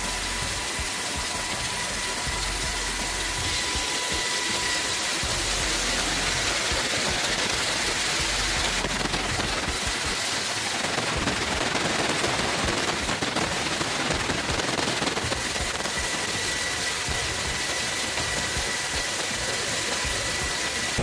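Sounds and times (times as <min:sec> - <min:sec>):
helicopter rotor and turbine: 0:00.0 - 0:21.0.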